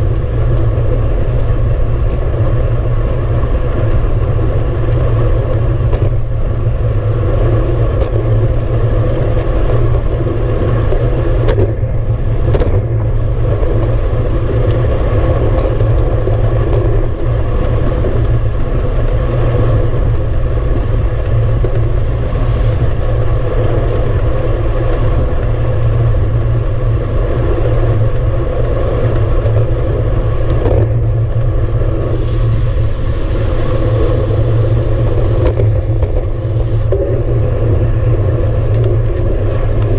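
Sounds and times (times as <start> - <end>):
bike tyres rolling on asphalt: 0.0 - 39.9
wind buffeting microphone: 0.0 - 39.9.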